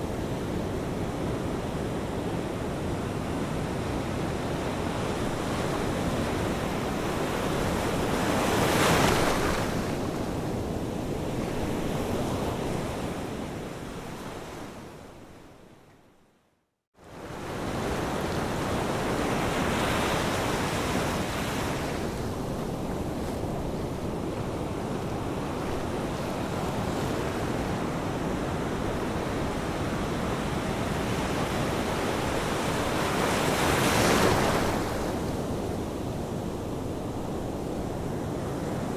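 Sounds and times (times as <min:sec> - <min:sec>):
ocean waves washing onto shore: 0:00.0 - 0:14.1, 0:17.1 - 0:38.9.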